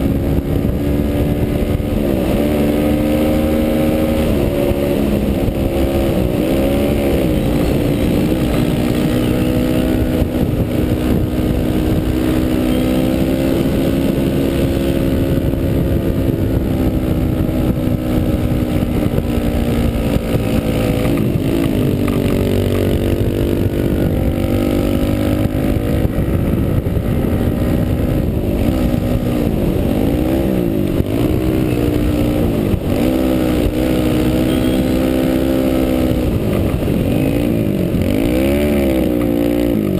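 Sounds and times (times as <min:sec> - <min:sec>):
dirt bike engine running hard: 0:00.0 - 0:39.9
wind noise: 0:00.0 - 0:39.9.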